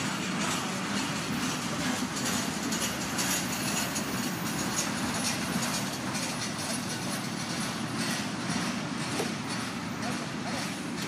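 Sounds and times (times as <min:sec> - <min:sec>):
freight train rolling past: 0:00.0 - 0:11.0.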